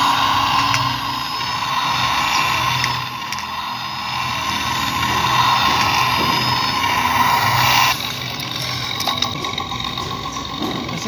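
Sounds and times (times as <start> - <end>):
toy motor and gearbox whirring: 0.0 - 11.0.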